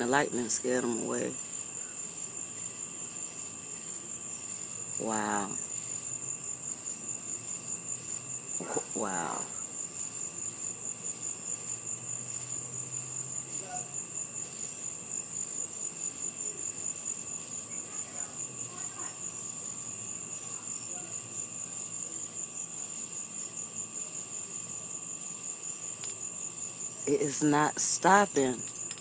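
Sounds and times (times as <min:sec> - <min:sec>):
night insects chirping: 0:00.0 - 0:29.0.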